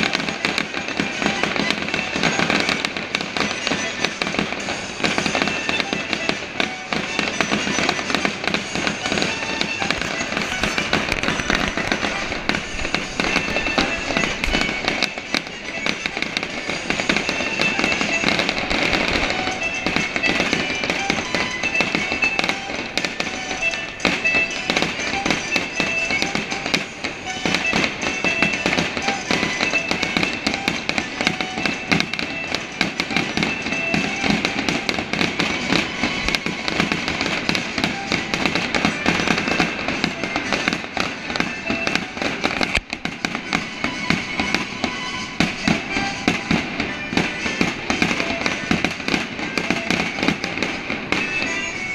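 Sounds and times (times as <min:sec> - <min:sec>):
fireworks crackling and popping: 0:00.0 - 0:51.9
music playing: 0:00.0 - 0:51.9.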